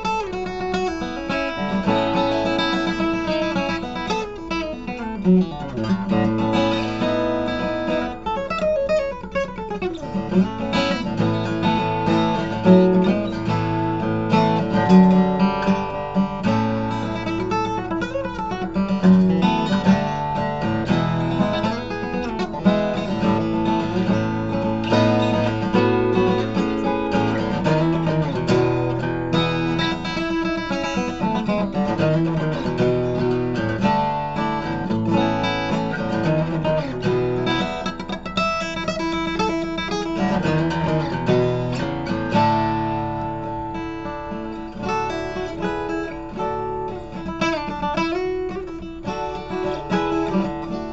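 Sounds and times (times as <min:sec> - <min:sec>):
acoustic guitar playing: 0:00.0 - 0:50.9.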